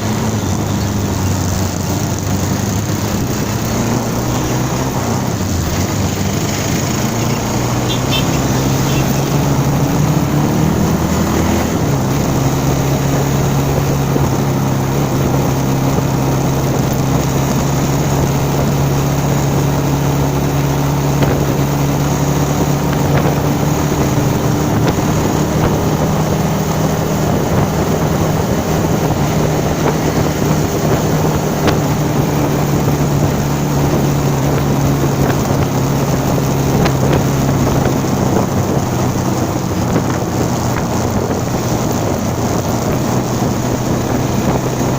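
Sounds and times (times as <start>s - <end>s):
vehicle engine cruising: 0.0s - 44.9s
wind and road noise: 0.0s - 44.9s.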